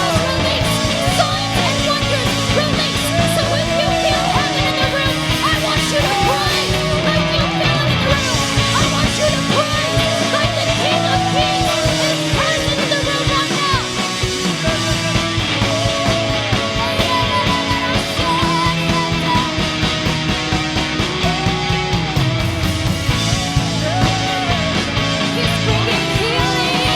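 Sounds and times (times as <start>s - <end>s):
electric guitar lead line: 0.0s - 26.9s
rock band playing: 0.0s - 26.9s.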